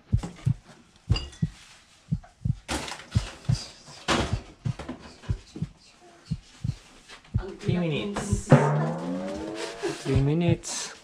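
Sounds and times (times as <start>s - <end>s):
heartbeat: 0.0s - 10.7s.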